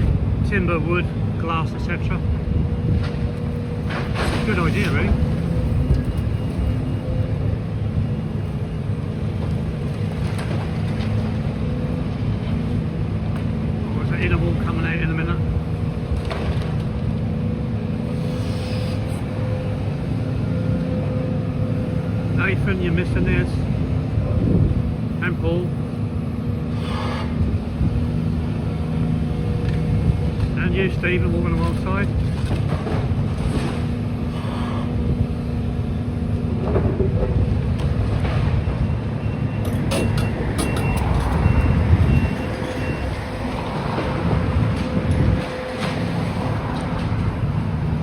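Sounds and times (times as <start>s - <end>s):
excavator diesel engine droning: 0.0s - 48.0s.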